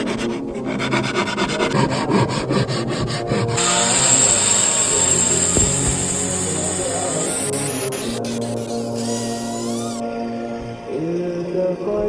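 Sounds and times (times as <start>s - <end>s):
wood being rasped: 0.0s - 10.0s.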